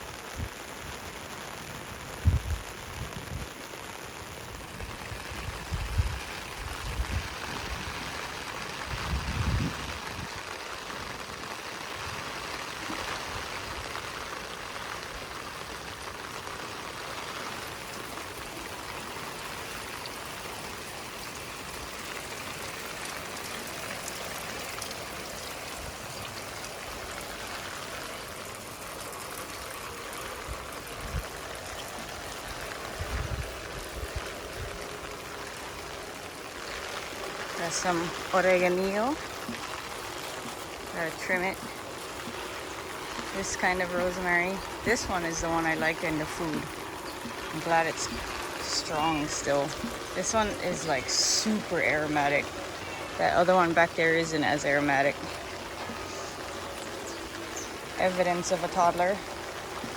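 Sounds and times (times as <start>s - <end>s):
rain on leaves and ground: 0.0s - 59.9s.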